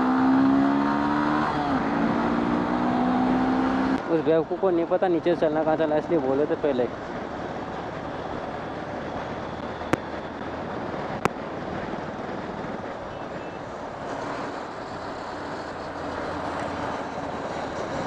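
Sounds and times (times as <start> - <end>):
motorcycle engine and tyre noise: 0.0 - 18.0
wind rushing over microphone: 0.0 - 18.0.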